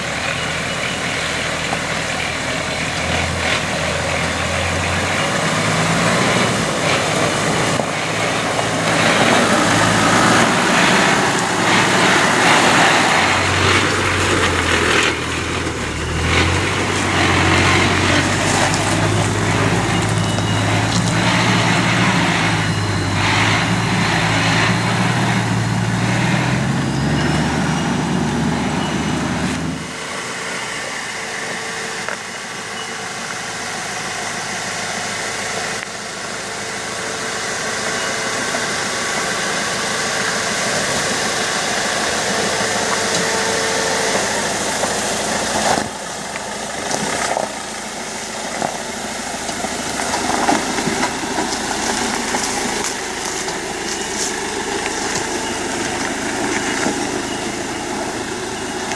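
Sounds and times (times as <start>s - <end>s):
off-road engines at low revs: 0.0s - 58.9s.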